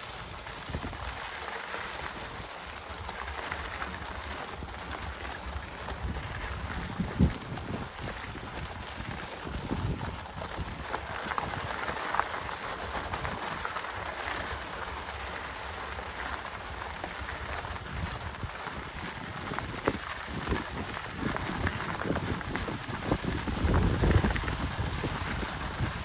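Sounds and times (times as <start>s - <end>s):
bike tyres crackling on dirt: 0.0s - 26.0s
wind rumbling on microphone: 0.0s - 26.0s.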